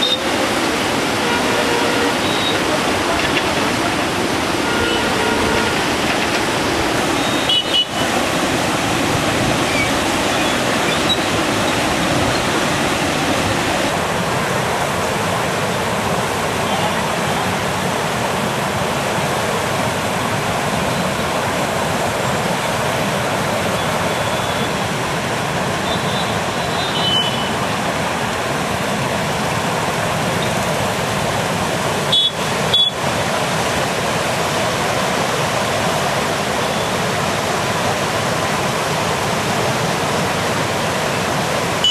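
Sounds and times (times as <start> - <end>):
floodwater rushing and churning: 0.0 - 41.9.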